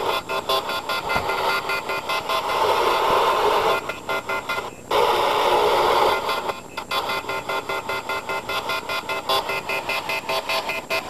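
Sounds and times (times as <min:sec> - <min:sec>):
telephone off-hook beeping: 0:00.0 - 0:11.0.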